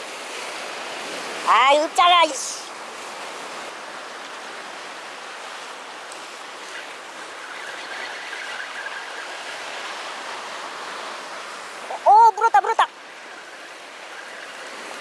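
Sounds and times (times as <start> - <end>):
surf washing against rocks: 0.0 - 15.0.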